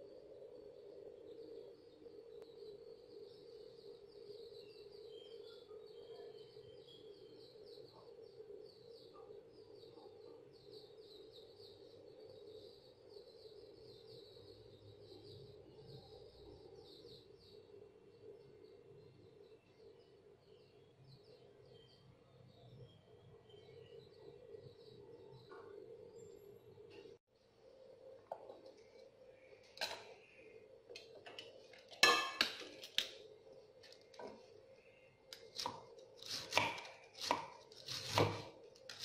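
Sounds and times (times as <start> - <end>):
small birds chirping: 1.0 - 27.2, 28.0 - 39.0.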